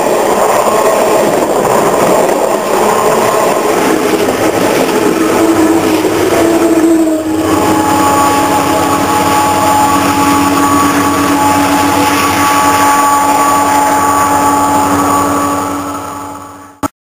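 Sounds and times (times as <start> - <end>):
ringing tones in rail: 0.0 - 16.9
rumble through rail: 0.0 - 16.9.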